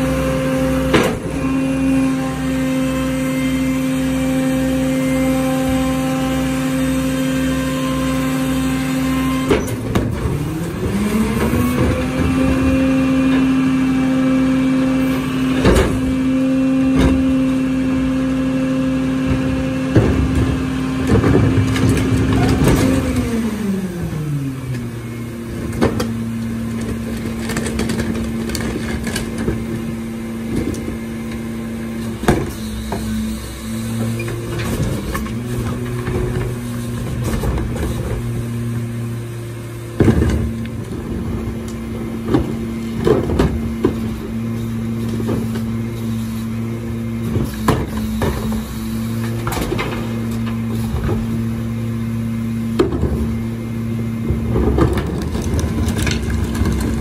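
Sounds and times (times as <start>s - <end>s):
garbage truck engine running: 0.0s - 57.0s.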